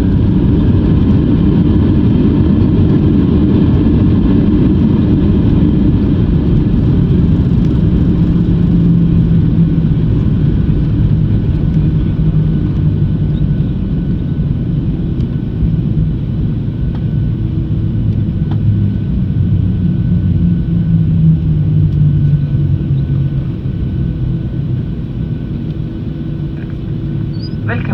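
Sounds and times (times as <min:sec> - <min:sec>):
aircraft cabin low rumble: 0:00.0 - 0:27.9.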